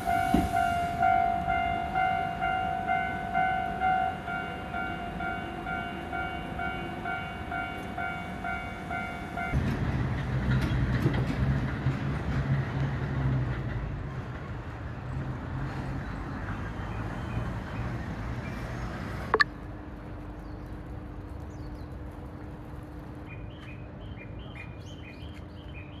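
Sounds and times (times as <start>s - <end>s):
train rumbling and clattering: 0.0s - 24.4s.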